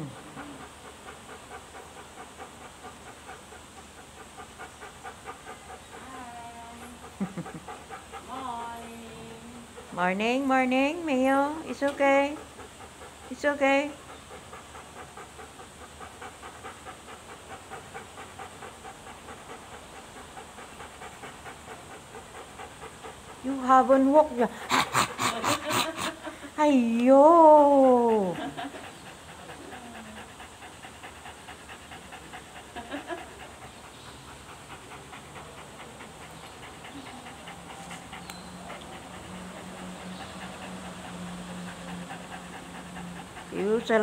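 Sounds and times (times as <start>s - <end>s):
dog panting rapidly: 0.0s - 44.0s.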